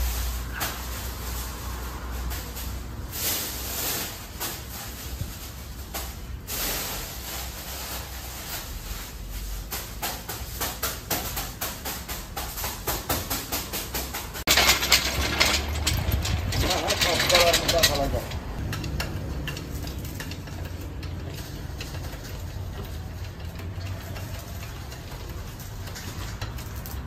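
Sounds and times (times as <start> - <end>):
aluminium foil crinkling: 0.0 - 14.5, 16.6 - 27.0.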